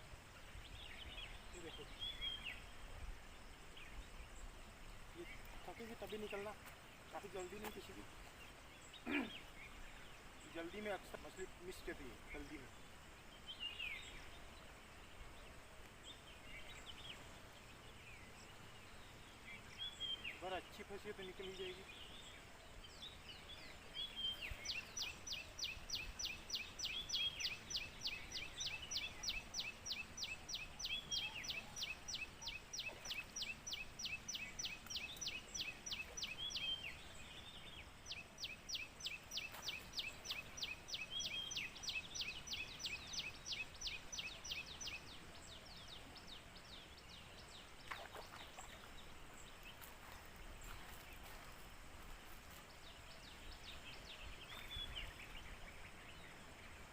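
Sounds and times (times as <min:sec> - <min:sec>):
bird chirping: 0:00.0 - 0:56.9
faint outdoor background noise: 0:00.0 - 0:56.9.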